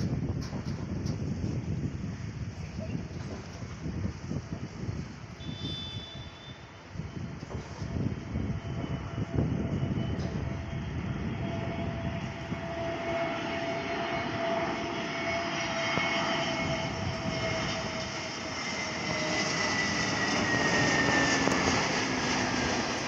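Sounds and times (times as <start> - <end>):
jet engine rumble with whine: 0.0 - 23.0.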